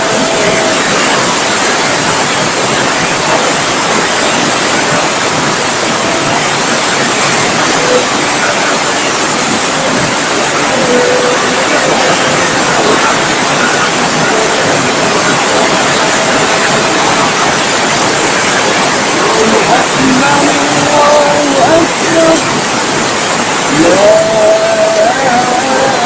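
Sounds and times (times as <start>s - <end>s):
heavy rain in strong wind: 0.0s - 26.0s.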